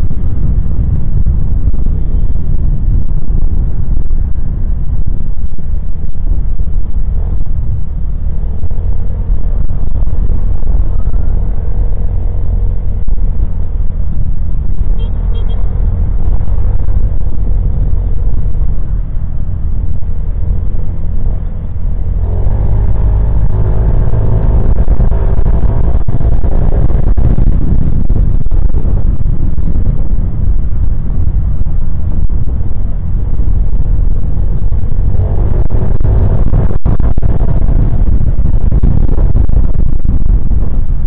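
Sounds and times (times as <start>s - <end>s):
motorcycle engine running: 0.0s - 41.0s
wind rumble on microphone: 0.0s - 41.0s.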